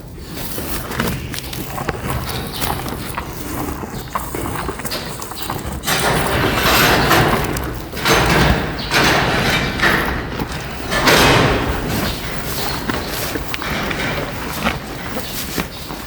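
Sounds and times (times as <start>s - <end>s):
cow chewing straw: 0.0s - 16.0s.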